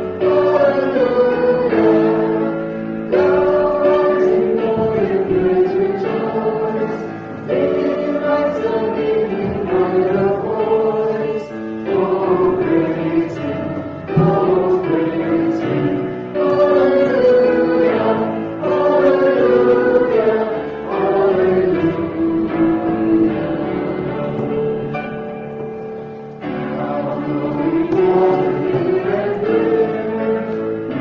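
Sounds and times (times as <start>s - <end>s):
small group singing a hymn: 0.0s - 31.0s.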